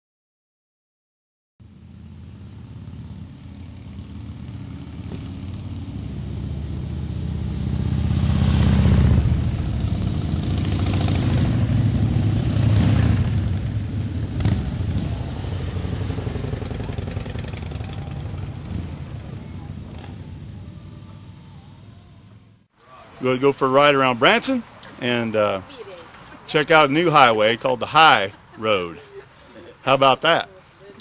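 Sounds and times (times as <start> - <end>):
motorcycles passing: 1.6 - 31.0.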